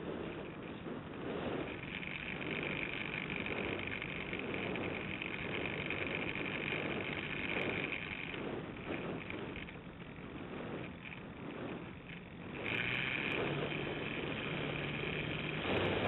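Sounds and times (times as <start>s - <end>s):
air rushing past: 0.0s - 16.0s
model airplane motor whining: 0.0s - 16.0s.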